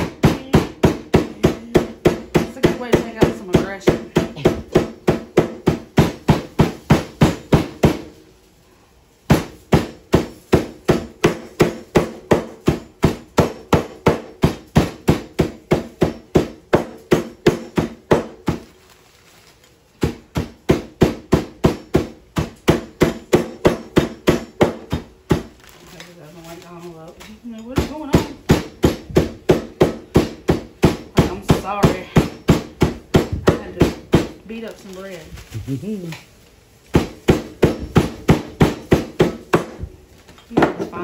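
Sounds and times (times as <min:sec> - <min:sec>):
mallet pounding bread in plastic bag: 0:00.0 - 0:08.3, 0:09.2 - 0:35.8, 0:36.9 - 0:41.0.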